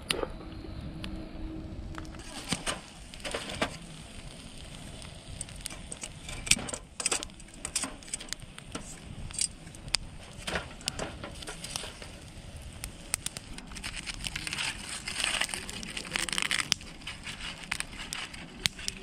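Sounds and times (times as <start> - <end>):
wood fire crackling: 0.9 - 19.0.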